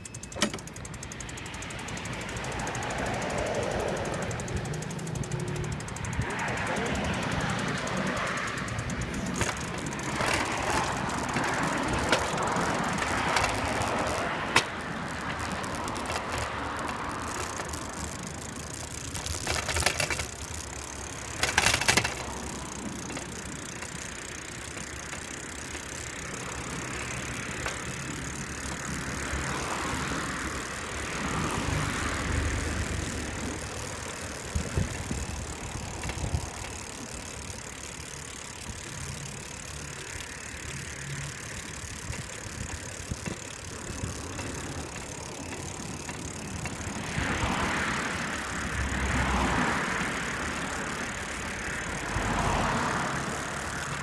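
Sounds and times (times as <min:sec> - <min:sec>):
bicycle frame and basket rattling: 0:00.0 - 0:54.0
bicycle tyres rolling on pavement: 0:00.0 - 0:54.0.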